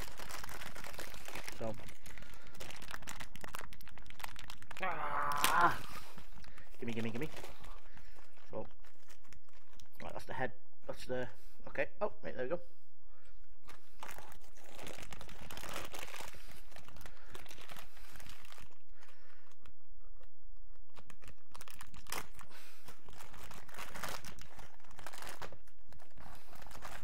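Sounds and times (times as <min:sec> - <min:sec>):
packaging torn and crinkled: 0:00.0 - 0:10.2, 0:13.6 - 0:27.0.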